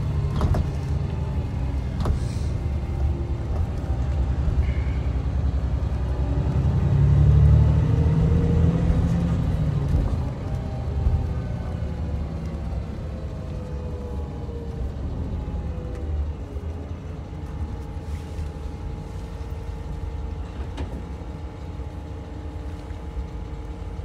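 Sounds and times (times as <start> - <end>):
diesel engine: 0.0 - 24.0
road rumble: 0.0 - 24.0.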